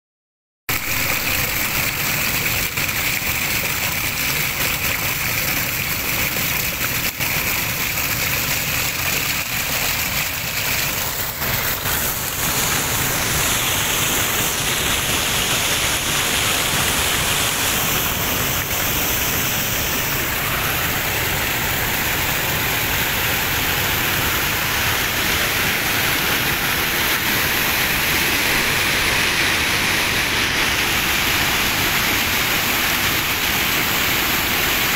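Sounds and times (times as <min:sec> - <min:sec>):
waterfall rushing: 0:00.7 - 0:34.9.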